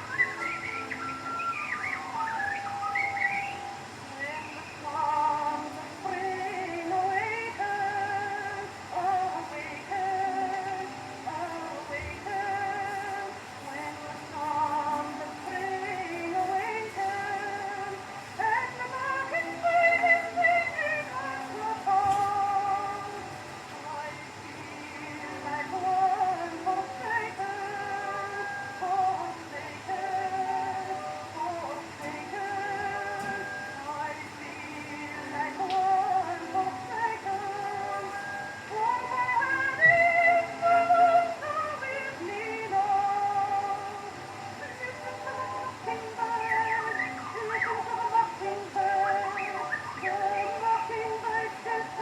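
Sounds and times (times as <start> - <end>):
record surface hiss: 0.0 - 52.0
soprano singing slow melody: 0.0 - 52.0.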